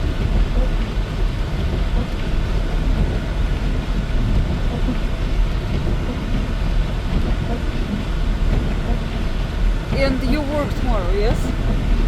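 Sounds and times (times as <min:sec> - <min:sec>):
car driving on snowy road: 0:00.0 - 0:12.0
car engine: 0:00.0 - 0:12.0
tyre and road noise: 0:00.0 - 0:12.0.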